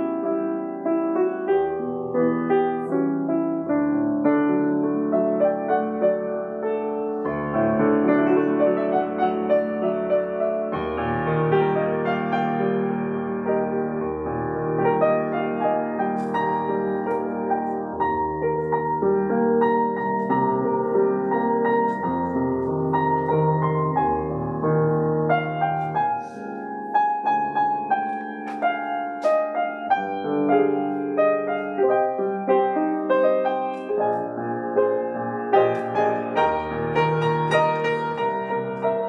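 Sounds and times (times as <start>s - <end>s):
slow piano music: 0.0s - 39.0s.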